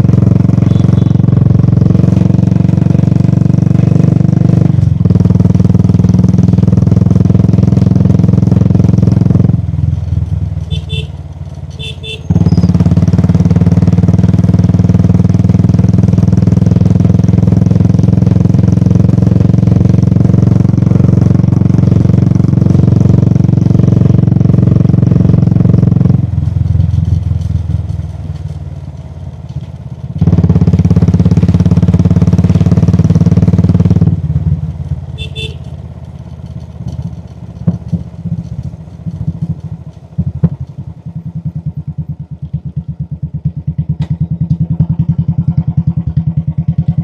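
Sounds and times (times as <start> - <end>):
motorcycle engine under throttle: 0.0 - 47.0.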